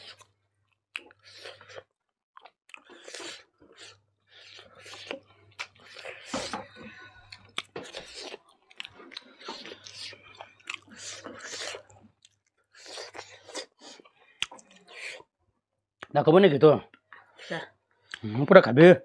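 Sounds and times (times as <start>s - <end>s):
people chewing food: 0.0s - 15.4s, 16.9s - 18.5s.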